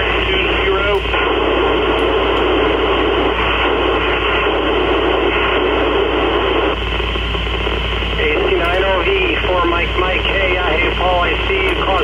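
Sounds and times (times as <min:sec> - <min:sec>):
low hum: 0:00.0 - 0:12.0
radio static hiss: 0:00.0 - 0:12.0.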